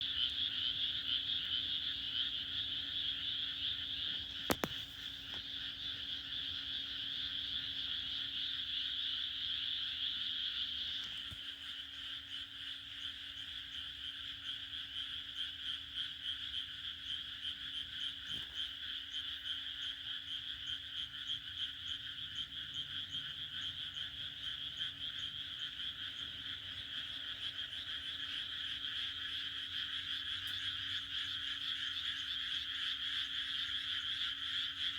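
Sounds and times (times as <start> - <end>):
chorus of frogs croaking: 0.0 - 34.9.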